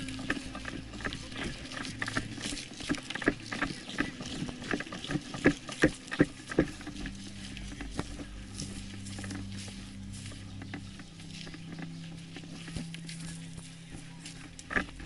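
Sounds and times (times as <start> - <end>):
footsteps crunching through dry leaves: 0.0 - 15.0
steady low hum: 0.0 - 15.0
twigs cracking and snapping: 0.0 - 15.0.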